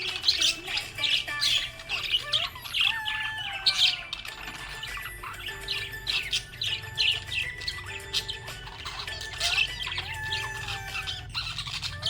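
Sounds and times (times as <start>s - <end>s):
budgerigars chirping and squawking: 0.0s - 12.0s.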